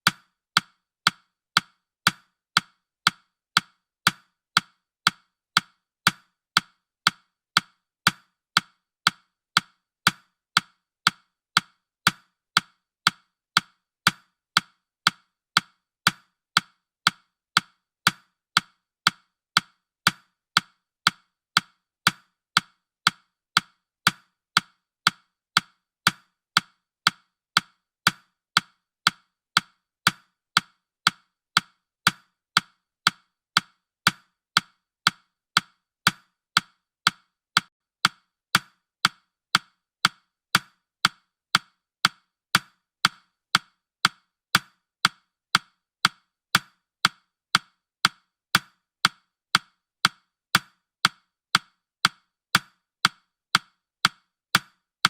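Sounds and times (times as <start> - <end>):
clock-like timer ticks: 0.0 - 55.0.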